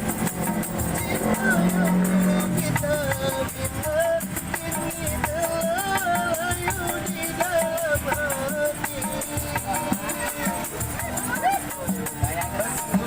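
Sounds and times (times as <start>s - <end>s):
shaken rattle rhythm: 0.0s - 13.0s
wavering melody: 0.0s - 13.0s.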